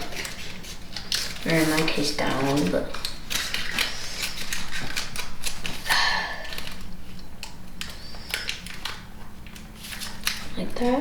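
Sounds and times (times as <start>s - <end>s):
paper rustle: 0.0s - 5.9s, 7.8s - 11.0s
paper folding crinkles: 0.0s - 11.0s.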